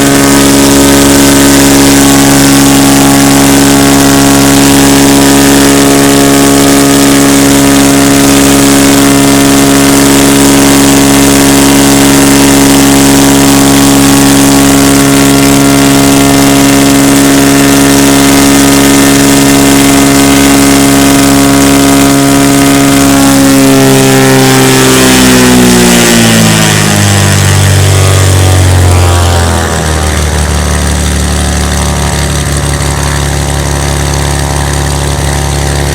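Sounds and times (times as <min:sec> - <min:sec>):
aircraft engine and propeller running: 0:00.0 - 0:35.9.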